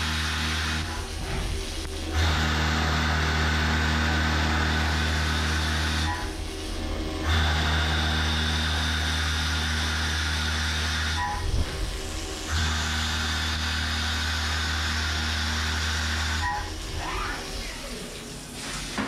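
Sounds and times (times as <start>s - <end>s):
mill drilling drone: 0.0s - 19.0s.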